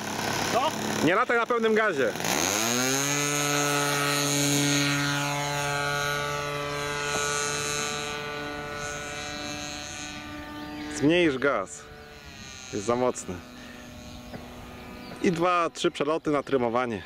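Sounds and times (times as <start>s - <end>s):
model plane engine at high throttle: 0.0s - 17.0s.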